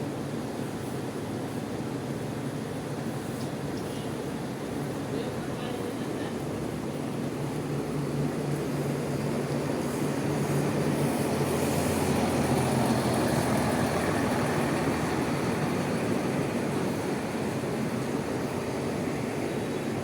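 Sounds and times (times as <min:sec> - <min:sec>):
bus engine hum: 0:00.1 - 0:20.0.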